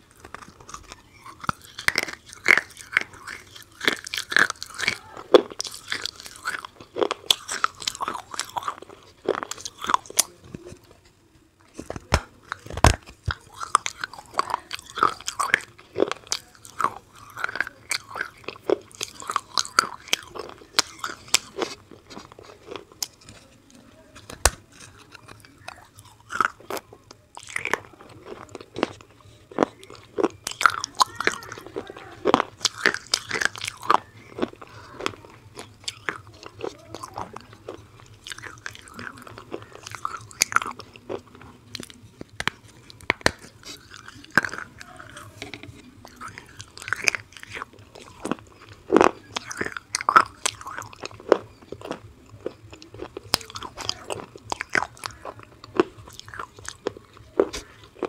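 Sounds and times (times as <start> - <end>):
soft chewing: 0.0 - 58.0.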